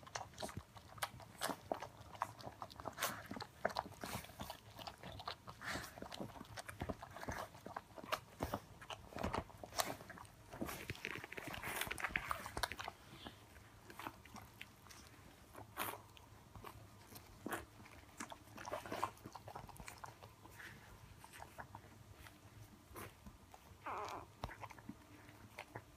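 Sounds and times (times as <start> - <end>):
dog licking and mouthing puppy: 0.0 - 25.9.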